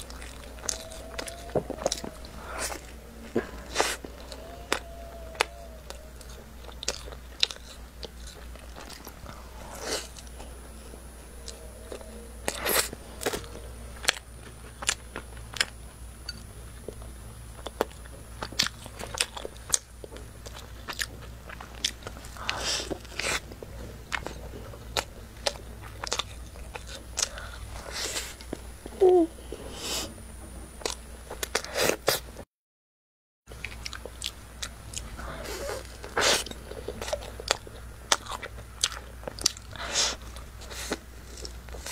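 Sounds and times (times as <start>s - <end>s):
biting and chewing with mouth clicks: 0.0s - 28.7s, 30.8s - 32.3s, 33.5s - 41.9s.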